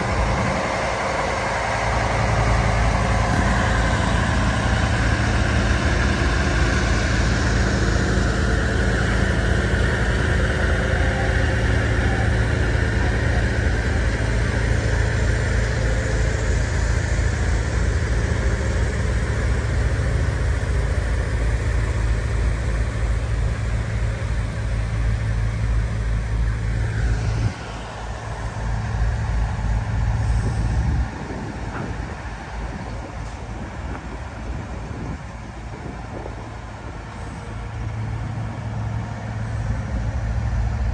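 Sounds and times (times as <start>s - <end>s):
truck rolling slowly past: 0.0s - 40.9s.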